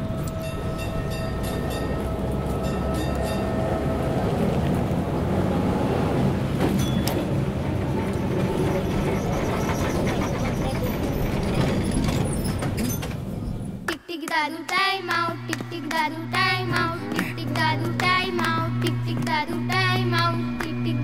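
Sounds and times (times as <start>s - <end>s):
whining tone: 0.0s - 13.8s, 14.9s - 21.0s
tram rumbling: 0.0s - 14.0s, 14.9s - 21.0s.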